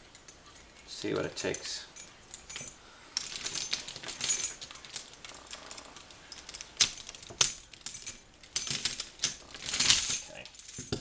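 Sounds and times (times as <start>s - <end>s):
padlocks and keys jangling: 0.0s - 11.0s.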